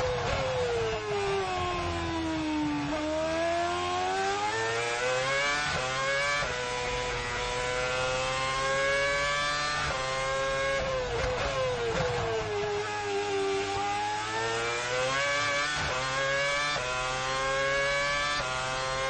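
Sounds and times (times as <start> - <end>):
racing car engine accelerating: 0.0 - 19.0.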